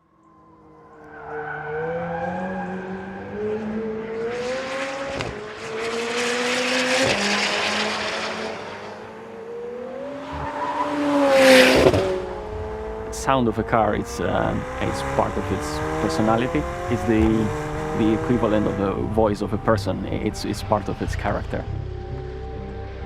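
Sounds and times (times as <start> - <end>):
sports car engine accelerating: 0.0 - 23.0.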